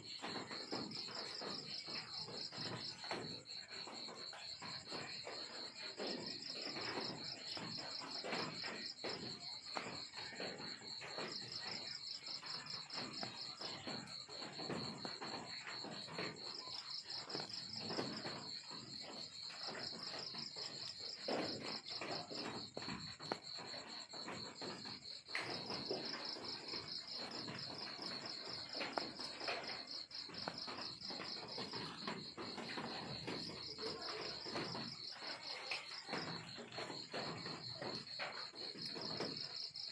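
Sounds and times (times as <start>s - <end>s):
crackling and rustling: 0.0s - 39.9s
crickets chirping: 0.0s - 39.9s.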